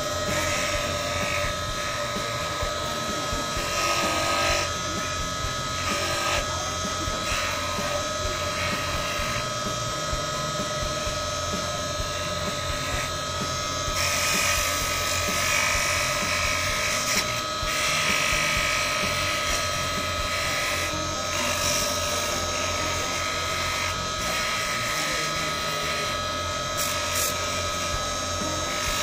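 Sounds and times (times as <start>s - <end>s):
bench grinder whine: 0.0s - 29.0s
metal hissing against grinding wheel: 0.0s - 29.0s.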